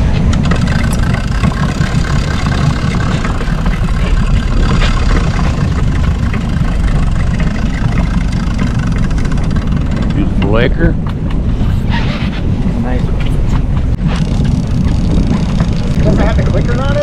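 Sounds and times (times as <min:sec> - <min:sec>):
boat motor running: 0:00.0 - 0:17.0.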